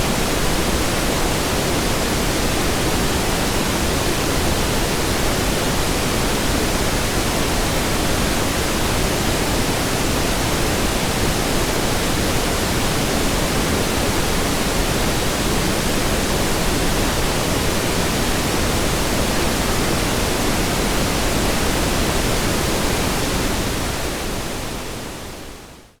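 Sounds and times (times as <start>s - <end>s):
pink noise hiss: 0.0s - 26.0s.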